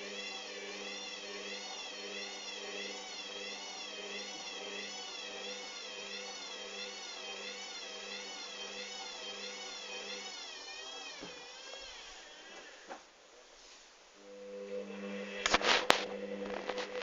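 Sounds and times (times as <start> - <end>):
washing machine motor whining: 0.0 - 13.0, 14.2 - 17.0.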